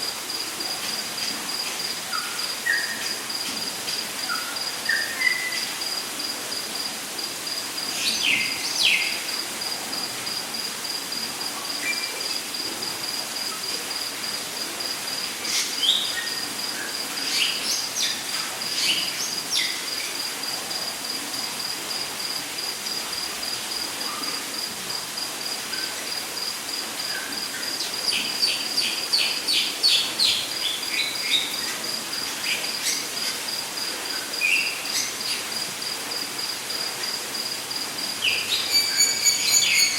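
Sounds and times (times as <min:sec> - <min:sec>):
pulsing insect trill: 0:00.0 - 0:39.9.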